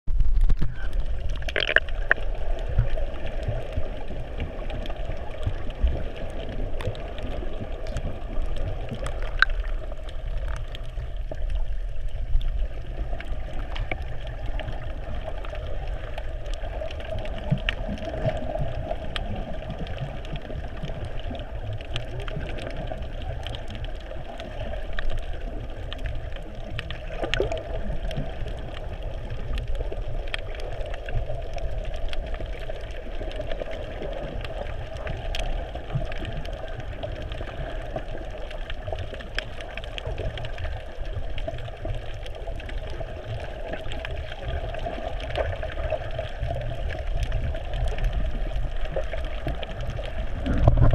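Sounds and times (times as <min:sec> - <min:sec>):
underwater clicks and knocks: 0:00.1 - 0:11.6, 0:12.2 - 0:15.6, 0:16.2 - 0:50.9
muffled underwater rumble: 0:00.1 - 0:50.9.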